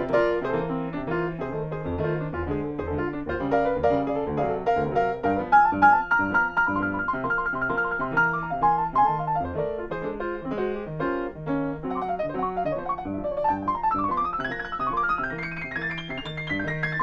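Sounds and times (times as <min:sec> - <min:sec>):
grand piano playing chords: 0:00.0 - 0:17.0.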